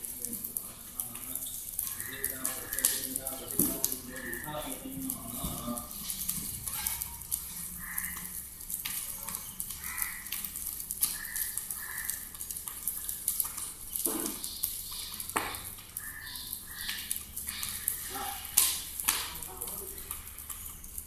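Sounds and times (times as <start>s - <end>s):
fire sizzling and crackling: 0.0s - 21.0s.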